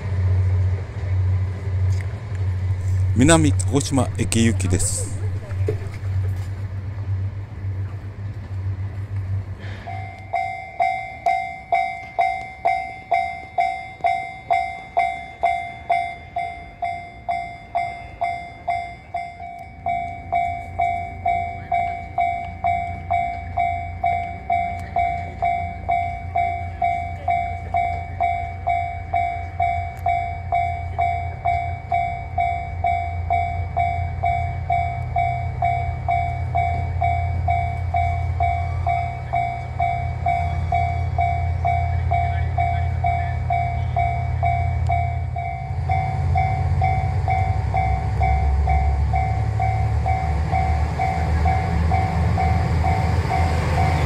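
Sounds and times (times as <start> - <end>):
train rumble: 0.0 - 54.0
level-crossing warning bell: 2.6 - 54.0.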